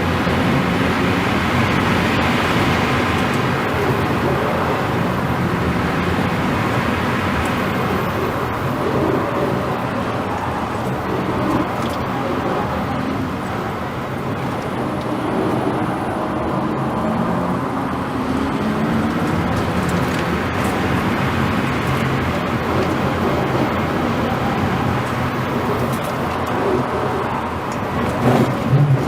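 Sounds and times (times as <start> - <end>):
car driving at speed: 0.0 - 29.0
road noise: 0.0 - 29.0.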